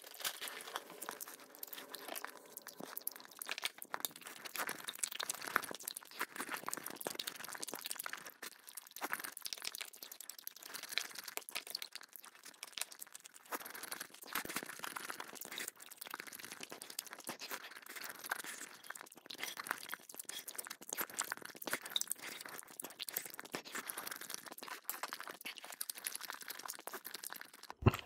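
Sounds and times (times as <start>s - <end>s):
meat tearing and crinkling: 0.0s - 27.8s
wet chewing: 0.0s - 28.0s.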